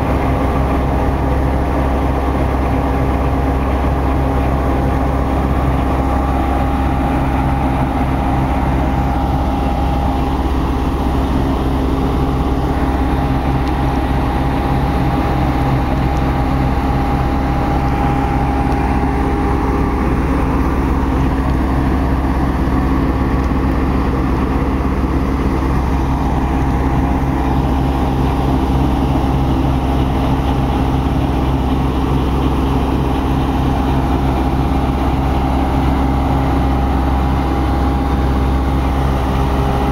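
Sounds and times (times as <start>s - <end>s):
locomotive engine idling: 0.0s - 39.9s.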